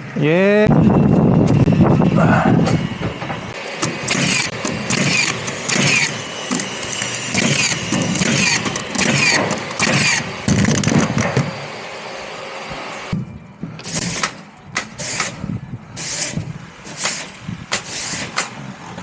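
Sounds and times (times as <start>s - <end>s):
power tool whining in bursts: 0.9s - 18.9s.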